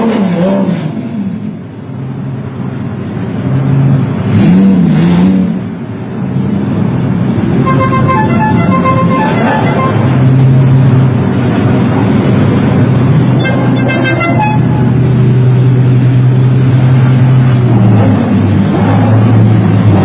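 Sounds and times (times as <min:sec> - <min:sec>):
car engine and exhaust drone: 0:00.0 - 0:20.0.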